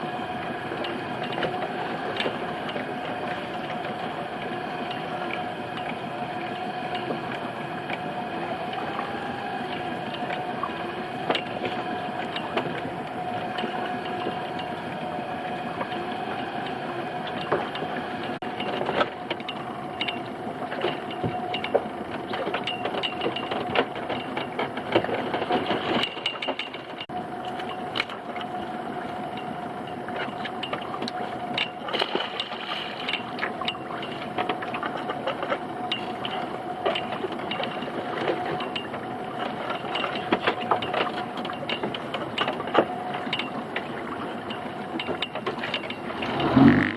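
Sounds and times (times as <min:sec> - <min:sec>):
boat motor droning: 0:00.0 - 0:46.9.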